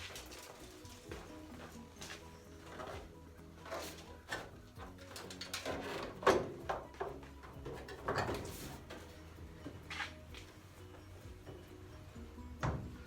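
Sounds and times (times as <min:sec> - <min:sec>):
quiet background music: 0:00.0 - 0:13.0.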